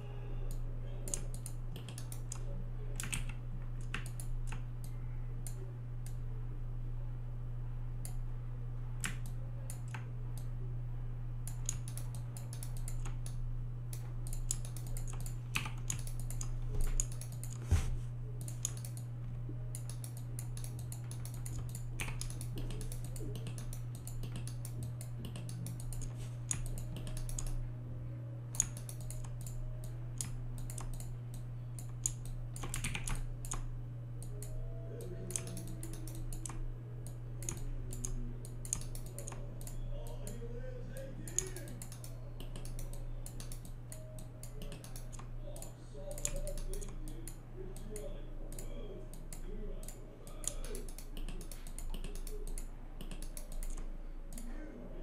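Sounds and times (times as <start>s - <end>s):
steady low hum: 0.0s - 55.0s
keyboard and mouse clicking: 0.5s - 6.2s, 9.0s - 10.5s, 11.5s - 17.7s, 18.4s - 19.1s, 19.7s - 27.6s, 28.5s - 40.4s, 41.2s - 54.5s.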